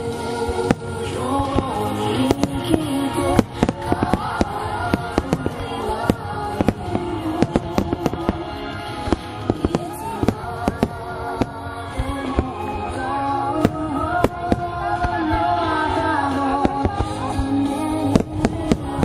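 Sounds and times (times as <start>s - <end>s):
fireworks bursting: 0.0s - 19.0s
music: 0.0s - 19.0s.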